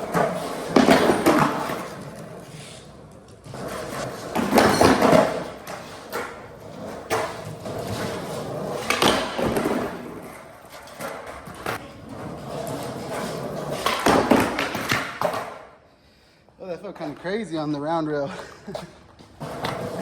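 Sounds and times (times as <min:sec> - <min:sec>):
skateboard wheels rolling on ramp: 0:00.0 - 0:15.7, 0:19.0 - 0:20.0.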